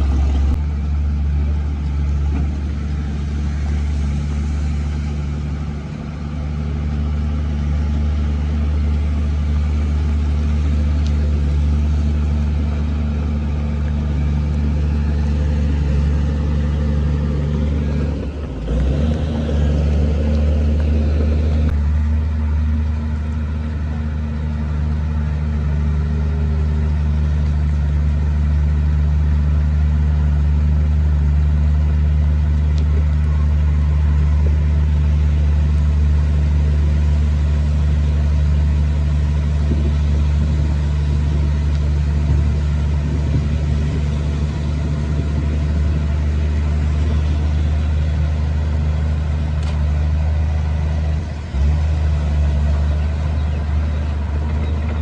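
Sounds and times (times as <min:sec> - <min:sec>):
diesel machine engine running: 0:00.0 - 0:55.0.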